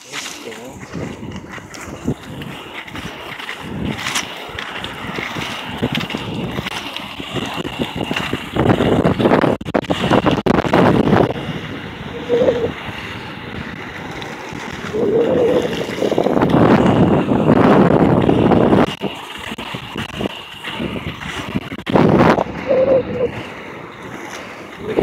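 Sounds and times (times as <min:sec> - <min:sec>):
skate wheels rolling on asphalt: 0:00.0 - 0:25.0
wind buffeting microphone: 0:00.0 - 0:25.0.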